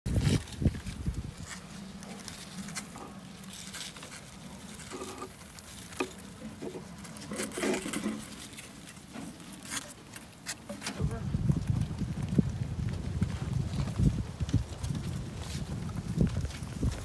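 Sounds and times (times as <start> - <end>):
rustling of hay and fur: 0.1 - 17.0.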